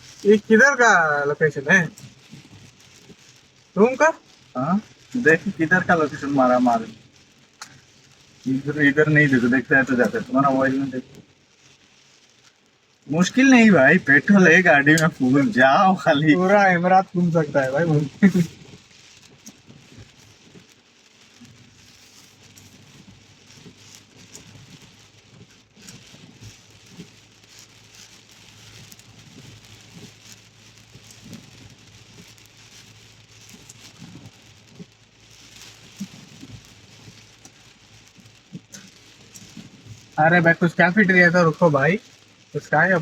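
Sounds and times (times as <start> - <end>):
heavy rain on car roof: 0.0 - 43.0
raindrops ticking: 0.0 - 43.0.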